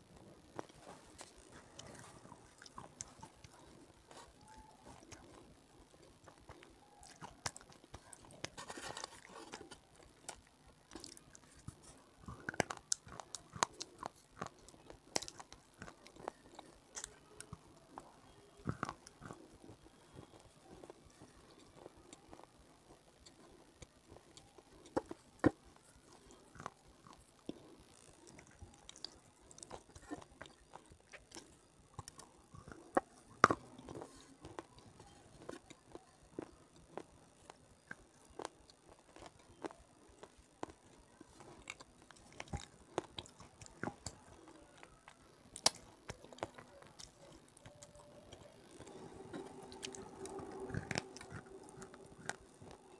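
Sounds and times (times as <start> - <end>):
quiet chewing: 0.0 - 52.9.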